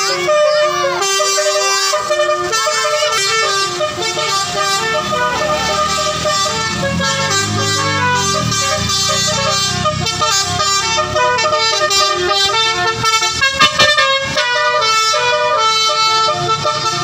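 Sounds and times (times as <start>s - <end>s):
musical vehicle horn melody: 0.0s - 17.0s.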